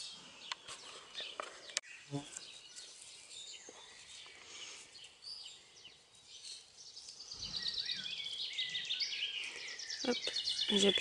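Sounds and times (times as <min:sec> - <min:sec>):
rapid bird song: 0:00.0 - 0:11.0
small birds chirping: 0:00.0 - 0:11.0.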